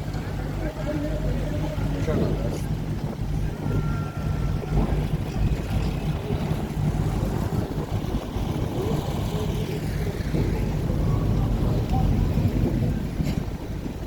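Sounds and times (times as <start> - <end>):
boat engine rumble: 0.0 - 14.0
water wash: 0.0 - 14.0.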